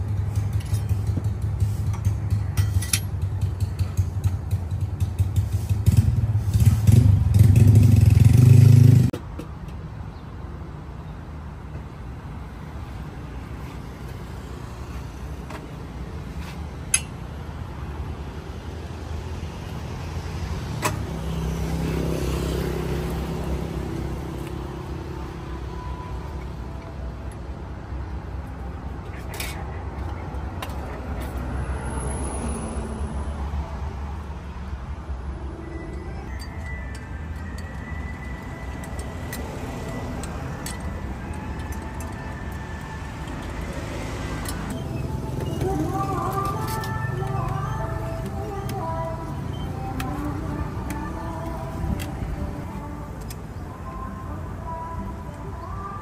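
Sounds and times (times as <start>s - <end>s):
low hum of road traffic: 0.0s - 56.0s.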